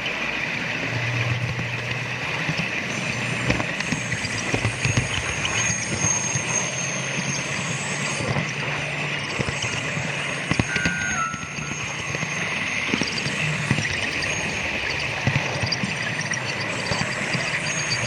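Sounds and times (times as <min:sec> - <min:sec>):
model train running hum: 0:00.0 - 0:18.0
wheels clicking over rail joints: 0:00.0 - 0:18.0.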